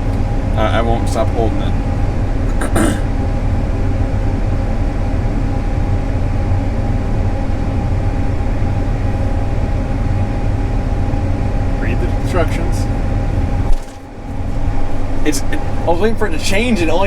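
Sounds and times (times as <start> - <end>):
air conditioning running: 0.0 - 17.0
engine hum in a cab: 0.0 - 17.0.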